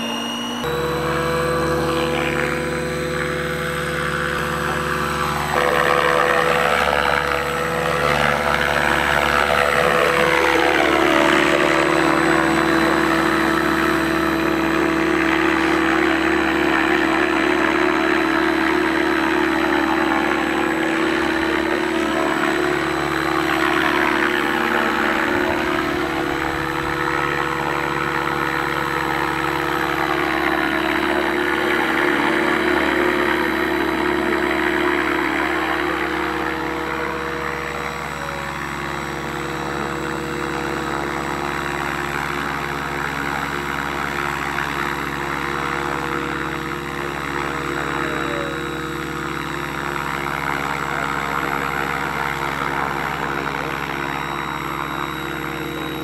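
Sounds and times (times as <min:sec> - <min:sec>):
model helicopter motor and rotors whining: 0:00.0 - 0:56.0.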